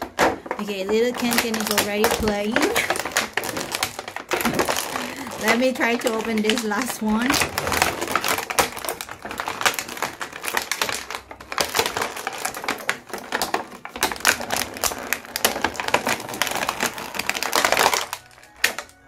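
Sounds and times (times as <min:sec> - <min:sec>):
packaging being torn open: 0:01.1 - 0:19.0.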